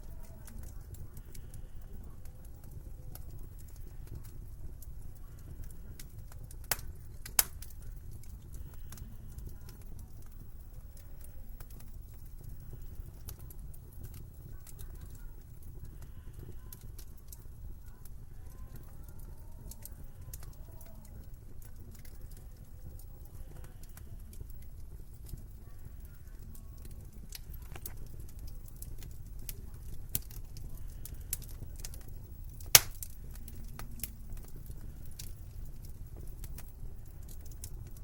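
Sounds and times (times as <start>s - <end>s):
fire popping: 0.0s - 38.0s
wood fire crackling: 0.0s - 38.0s.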